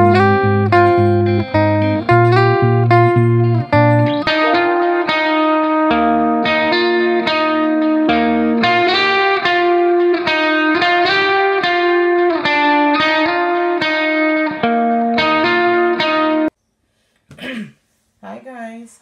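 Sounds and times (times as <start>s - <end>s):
bright instrumental melody: 0.0s - 16.5s.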